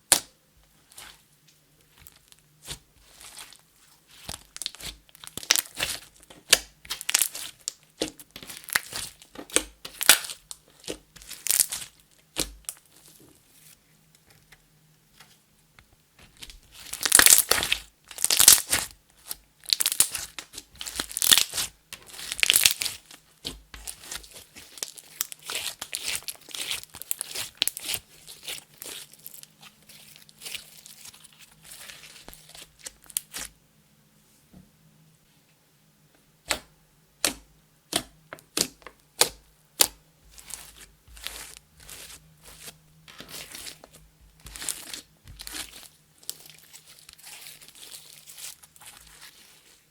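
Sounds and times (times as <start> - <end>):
slime crackling and squelching: 1.8 - 13.8, 16.2 - 33.6, 37.2 - 49.9.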